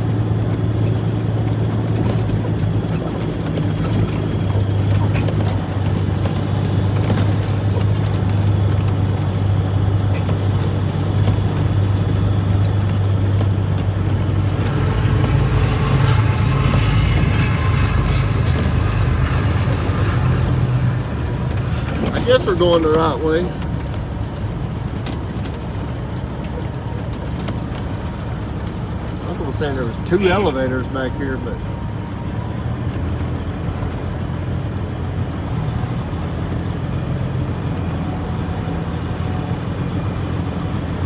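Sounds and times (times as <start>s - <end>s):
rattle and road noise: 0.0s - 41.0s
truck diesel engine running: 0.0s - 41.0s.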